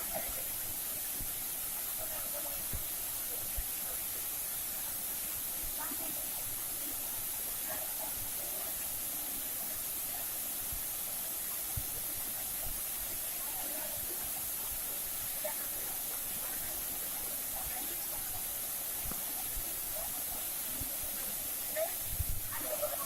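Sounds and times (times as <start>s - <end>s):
faint distant voices: 0.0s - 23.0s
falling water hissing: 0.0s - 23.0s.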